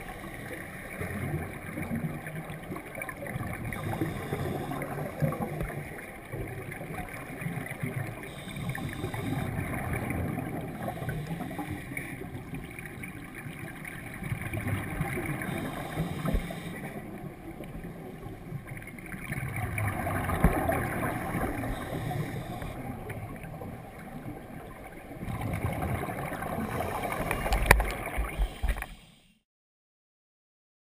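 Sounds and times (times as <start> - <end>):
muffled underwater breathing bubbles: 0.0 - 13.1, 14.6 - 18.5, 19.2 - 24.5, 25.2 - 29.4.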